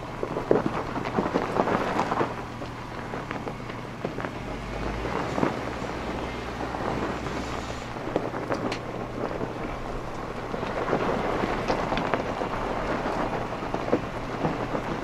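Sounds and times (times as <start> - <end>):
low steady engine: 0.0 - 15.0
stones crackling and knocking: 0.0 - 15.0
tyres crunching over gravel: 0.0 - 15.0.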